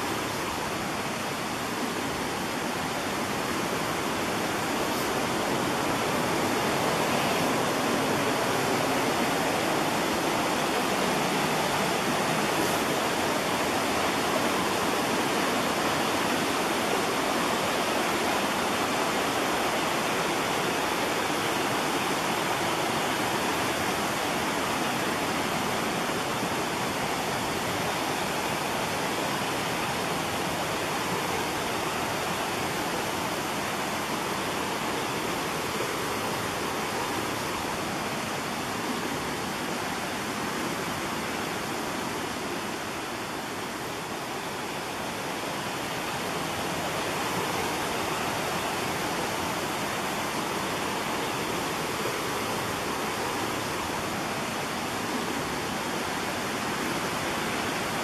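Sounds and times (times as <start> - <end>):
creek rushing with small waterfalls: 0.0 - 58.0.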